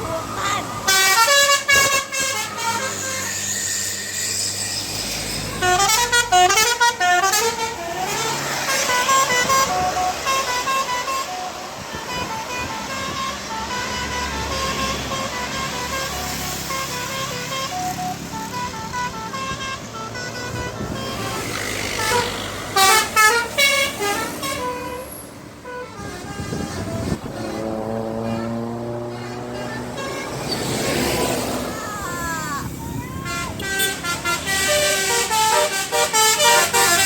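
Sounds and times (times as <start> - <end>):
musical bus horns playing tune: 0.8 - 37.0
loud horn blasts: 0.9 - 37.0.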